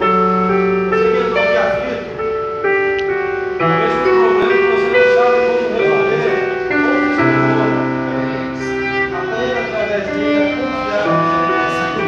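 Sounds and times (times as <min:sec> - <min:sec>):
electric keyboard sustained chords: 0:00.0 - 0:12.0
wavering melody line: 0:00.0 - 0:12.0.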